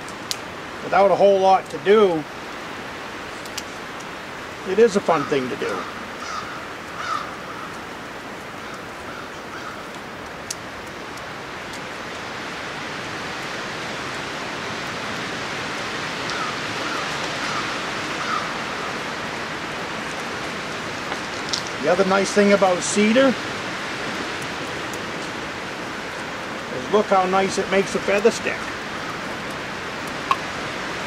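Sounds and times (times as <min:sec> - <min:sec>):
wind rushing through trees: 0:00.0 - 0:31.0.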